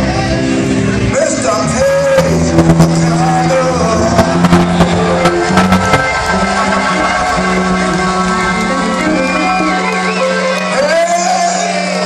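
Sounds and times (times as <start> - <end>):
live band playing through pa: 0.0 - 12.0.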